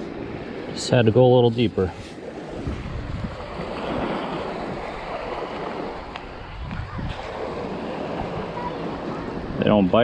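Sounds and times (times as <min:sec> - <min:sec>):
surf washing in shallows: 0:00.0 - 0:10.0
wind on microphone: 0:01.9 - 0:10.0.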